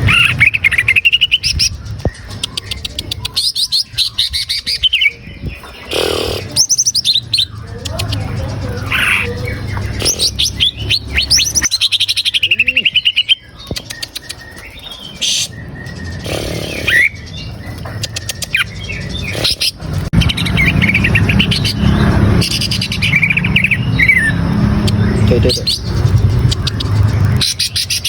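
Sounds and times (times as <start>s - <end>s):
bird singing whistled notes: 0.0s - 19.6s, 20.2s - 26.6s.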